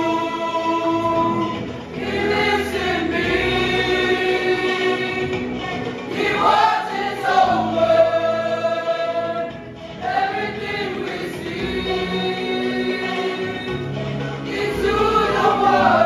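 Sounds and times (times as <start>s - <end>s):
choir singing gospel song: 0.0s - 16.0s.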